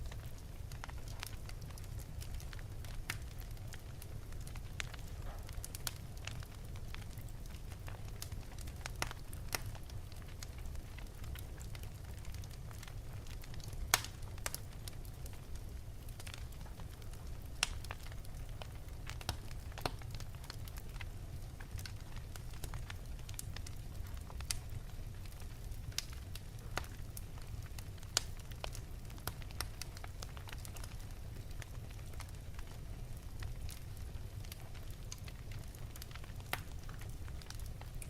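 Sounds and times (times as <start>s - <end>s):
low fire rumble: 0.0s - 38.0s
wood fire crackling and popping: 0.0s - 38.0s.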